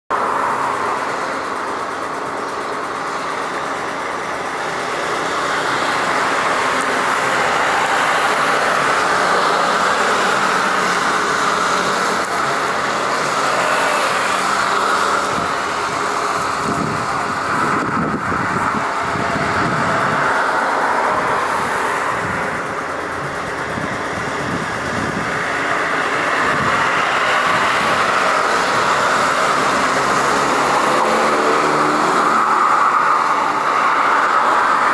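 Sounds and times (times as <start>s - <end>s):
jet engines roaring with whine: 0.1s - 34.9s.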